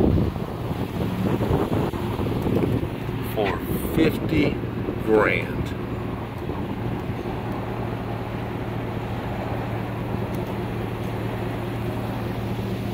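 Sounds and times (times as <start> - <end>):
pickup engine running: 0.0 - 12.9.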